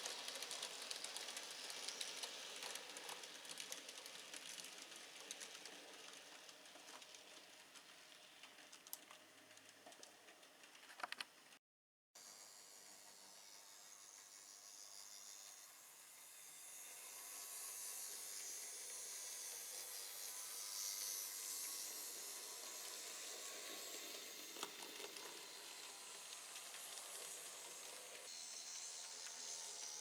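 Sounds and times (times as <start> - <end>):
model locomotive motor whirring: 0.0 - 11.3, 12.2 - 30.0.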